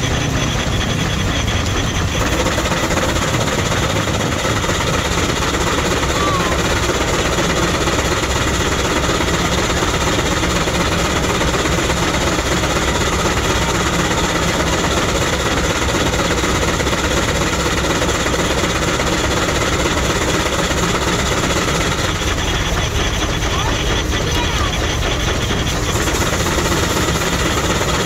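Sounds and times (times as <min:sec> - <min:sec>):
steam engine running: 0:00.0 - 0:28.0.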